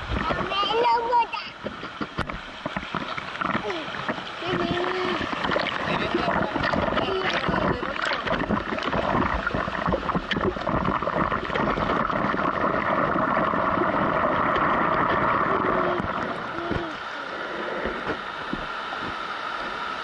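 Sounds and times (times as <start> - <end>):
sea water sloshing and splashing: 0.0 - 20.0.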